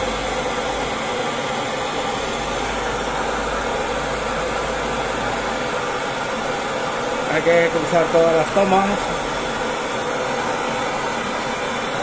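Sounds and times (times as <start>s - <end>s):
blowtorch hissing: 0.0s - 12.0s.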